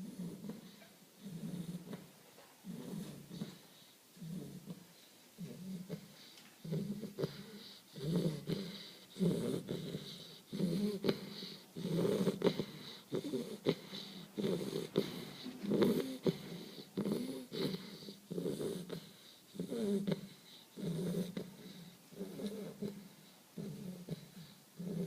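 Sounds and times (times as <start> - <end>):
puppy snoring with whistle: 0.0 - 4.8, 5.4 - 25.0.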